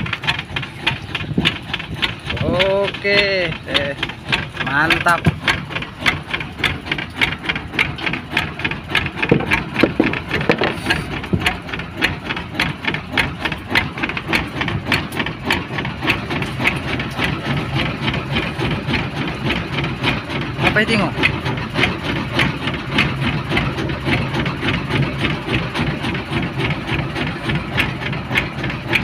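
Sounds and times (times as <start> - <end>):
boat engine idling: 0.0 - 29.0.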